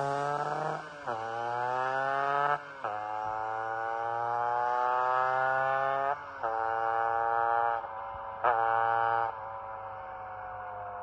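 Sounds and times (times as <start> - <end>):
scooter engine accelerating: 0.0 - 9.5.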